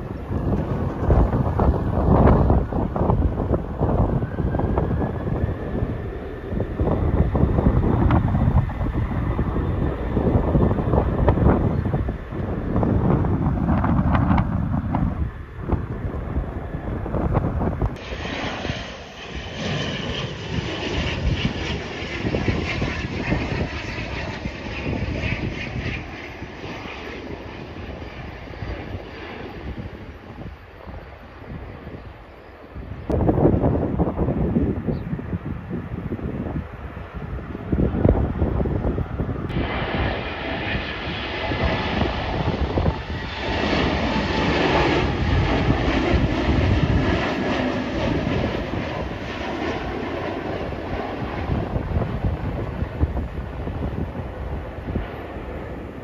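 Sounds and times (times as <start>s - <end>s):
jet engine rumble and hiss: 0.0s - 56.0s
turboprop airliner passing low: 0.0s - 56.0s
wind buffeting microphone: 0.0s - 56.0s.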